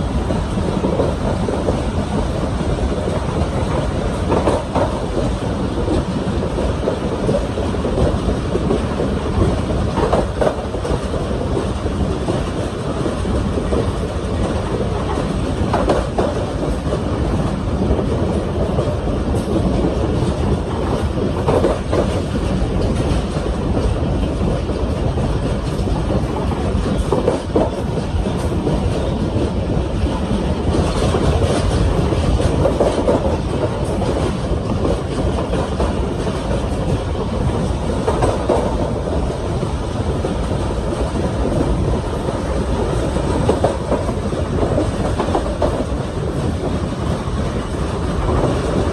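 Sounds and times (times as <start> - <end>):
railcar wheel clatter: 0.0 - 48.9
wheels rumbling on rail: 0.0 - 48.9.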